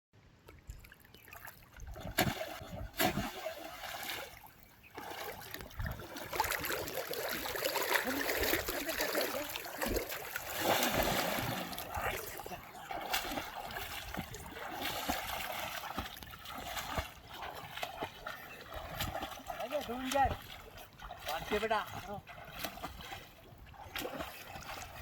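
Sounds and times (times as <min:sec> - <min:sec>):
water splashing and sloshing: 0:00.2 - 0:25.0.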